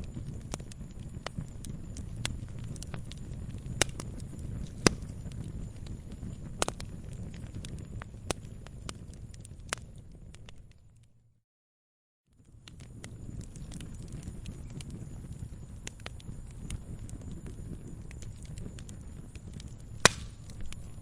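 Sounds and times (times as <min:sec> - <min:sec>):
campfire crackling and popping: 0:00.0 - 0:11.2, 0:12.4 - 0:21.0.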